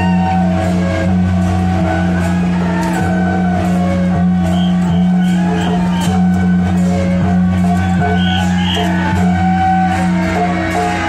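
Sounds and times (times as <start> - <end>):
music with warbling melody: 0.0 - 11.0.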